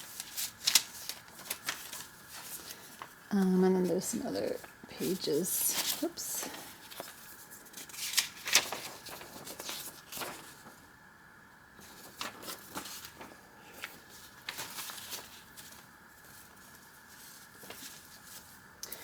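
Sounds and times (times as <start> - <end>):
paper rustling and crinkling: 0.0 - 11.0, 11.7 - 19.0.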